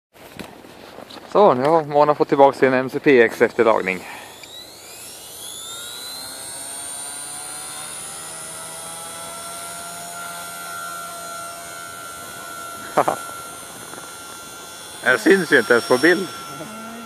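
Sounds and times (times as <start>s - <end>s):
rc helicopter motor whine: 2.3s - 17.0s.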